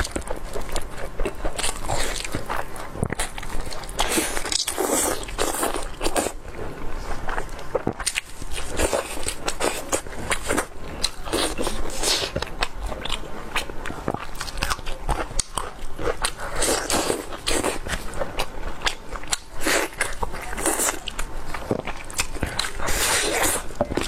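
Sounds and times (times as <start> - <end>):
close-miked chewing and smacking: 0.0 - 24.0.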